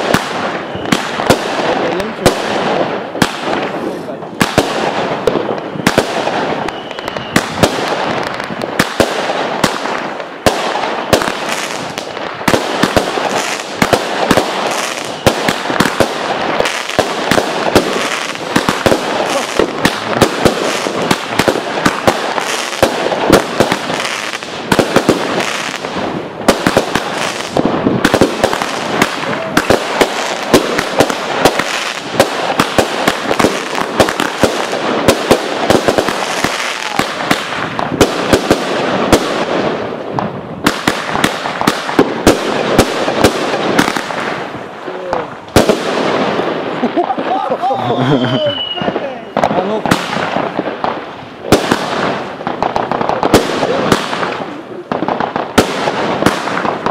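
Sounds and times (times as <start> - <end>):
fireworks bangs: 0.0 - 56.9
fireworks crackling: 0.0 - 56.9.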